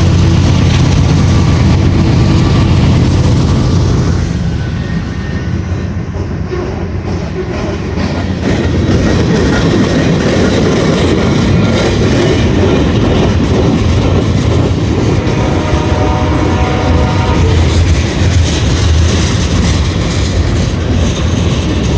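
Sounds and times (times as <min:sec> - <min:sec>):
freight train rumbling: 0:00.0 - 0:21.9
train wheels clattering on rails: 0:00.0 - 0:21.9.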